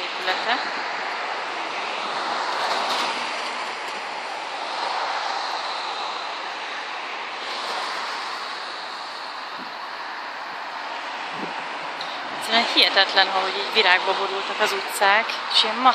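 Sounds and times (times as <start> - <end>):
street traffic hiss: 0.0 - 15.9.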